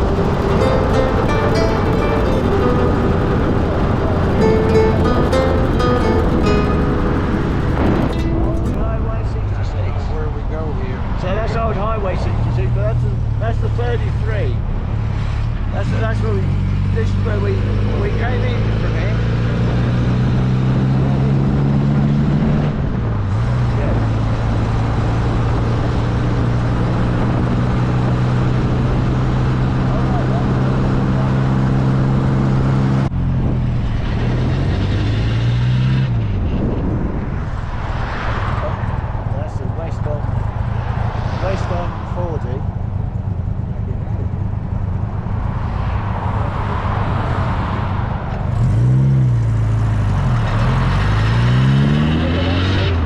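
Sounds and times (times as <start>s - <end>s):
car engine cruising: 0.0s - 53.0s
wind and road rush: 0.0s - 53.0s.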